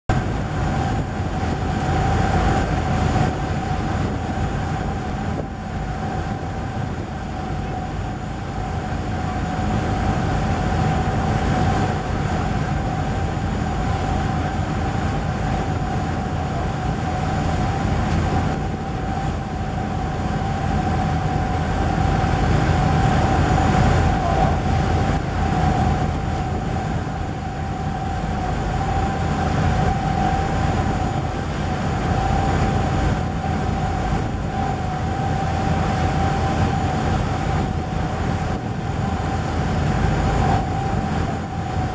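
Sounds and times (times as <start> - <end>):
boat engine rumbling: 0.1 - 41.9.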